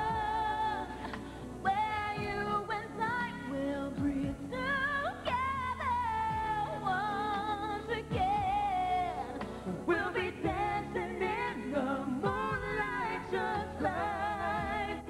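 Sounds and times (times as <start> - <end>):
woman and man singing duet: 0.0 - 15.0.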